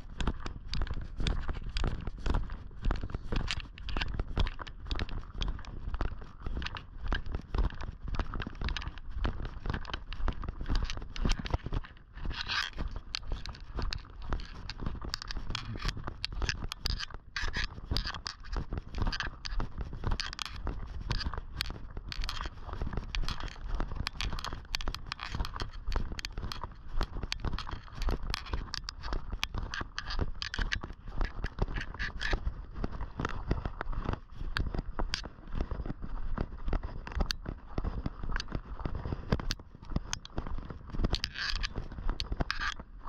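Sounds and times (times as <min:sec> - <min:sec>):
footsteps on trail: 0:00.0 - 0:43.0.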